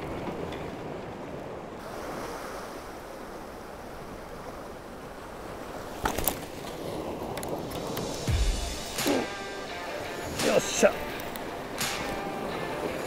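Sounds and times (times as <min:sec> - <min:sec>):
waves washing on rocky shore: 0:00.0 - 0:13.0.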